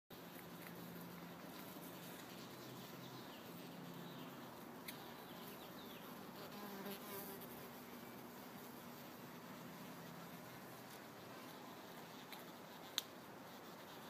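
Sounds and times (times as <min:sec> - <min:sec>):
bumblebee buzzing in flight: 0:00.2 - 0:14.0.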